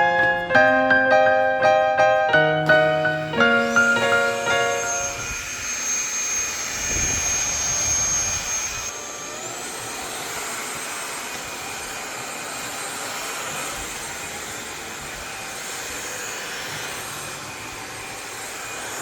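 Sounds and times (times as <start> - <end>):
vacuum motor whining: 0.0 - 19.0.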